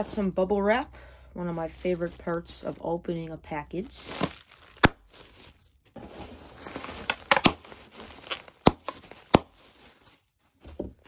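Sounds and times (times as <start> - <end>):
bubble wrap crinkling: 1.6 - 11.0
bubble wrap popping: 1.9 - 11.0.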